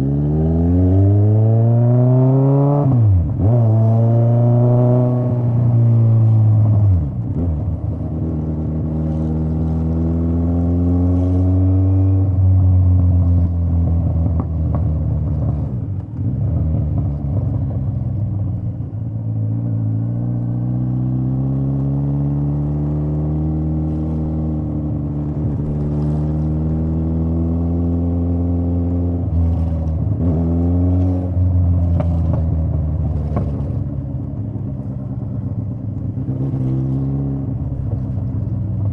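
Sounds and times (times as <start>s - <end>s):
motorcycle exhaust accelerating: 0.0s - 38.9s.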